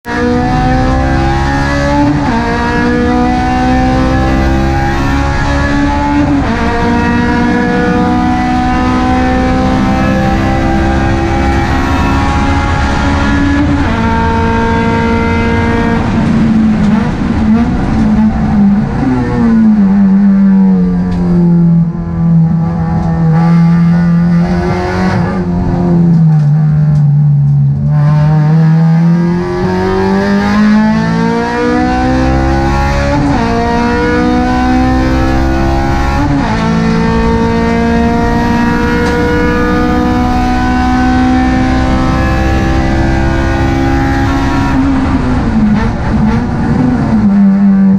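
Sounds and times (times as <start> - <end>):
racing car engine revving: 0.1 - 47.9.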